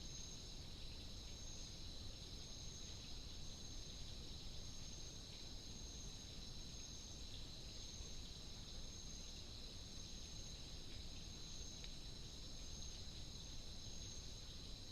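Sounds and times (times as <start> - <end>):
faint low background hiss: 0.0 - 14.9
insects trilling: 0.0 - 14.9.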